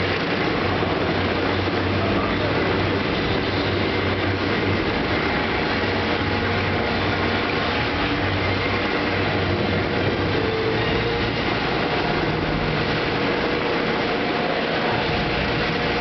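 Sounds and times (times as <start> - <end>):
faint high turbine whine: 0.0 - 16.0
helicopter idling: 0.0 - 16.0.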